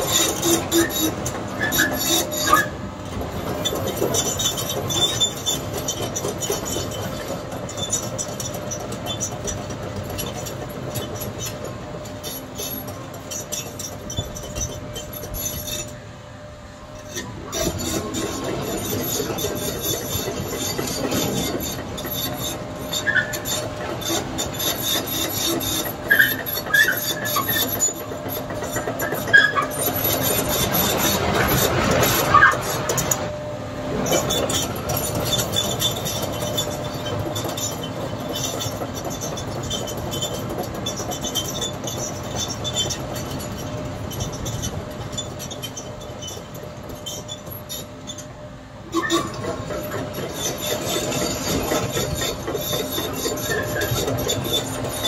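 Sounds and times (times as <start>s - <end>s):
excavator engine and hydraulics: 0.0s - 55.0s
steel tracks clanking and squealing: 0.0s - 55.0s.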